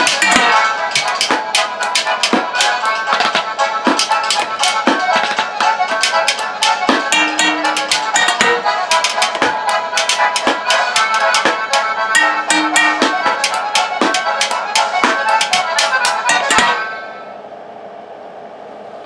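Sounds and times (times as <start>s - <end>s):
rapid stick tapping: 0.0s - 16.9s
folk music on junk percussion: 0.0s - 17.0s.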